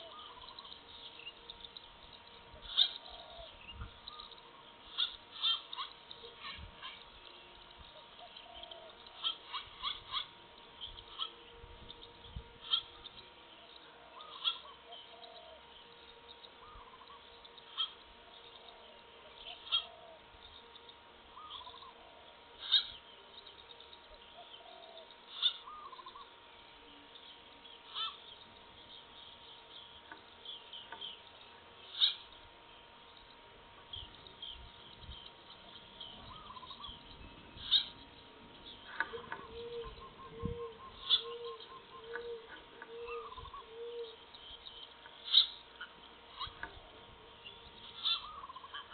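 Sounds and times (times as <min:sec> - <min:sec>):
birds warbling: 0:00.0 - 0:48.9.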